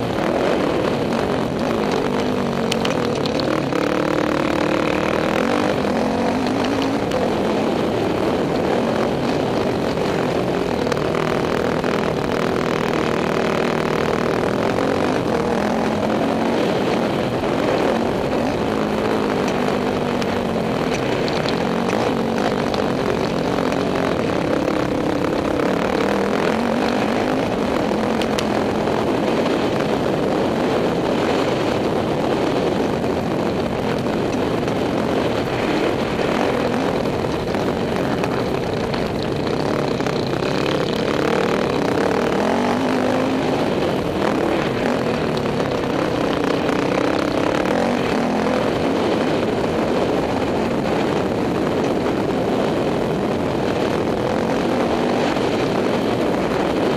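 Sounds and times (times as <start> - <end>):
dirt bike engine running hard: 0.0 - 56.9
wind noise on microphone: 0.0 - 56.9.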